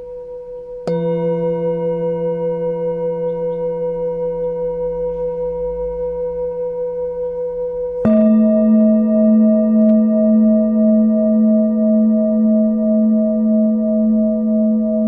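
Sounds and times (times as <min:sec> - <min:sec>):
second bowl struck low tone: 0:00.0 - 0:15.0
singing bowl ringing: 0:00.0 - 0:15.0.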